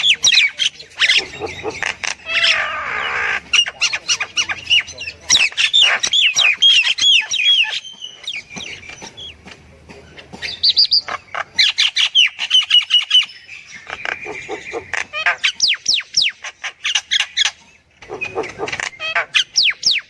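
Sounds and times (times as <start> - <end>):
myna bird calls: 0.0 - 20.0.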